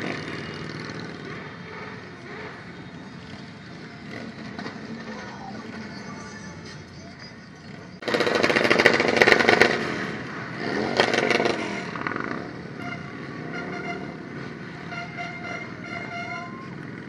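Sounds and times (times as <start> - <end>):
motorcycle engines revving: 0.0 - 17.0
motorcycles running: 0.0 - 17.0.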